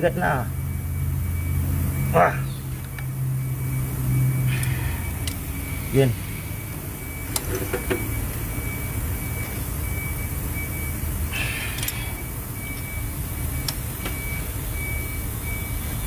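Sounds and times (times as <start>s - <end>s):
low rumble of vehicle traffic: 0.0s - 16.0s.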